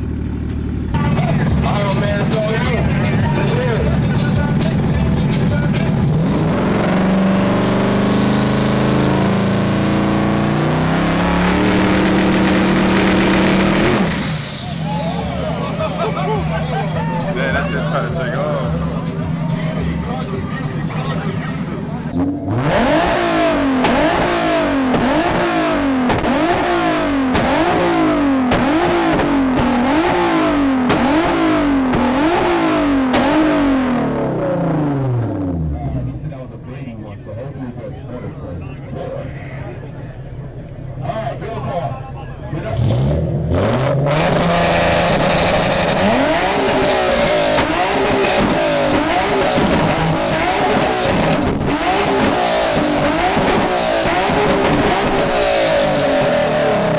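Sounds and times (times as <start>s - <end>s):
exhaust crack: 0.0s - 37.0s, 42.4s - 56.9s
car engine revving: 0.0s - 37.2s, 38.9s - 56.9s.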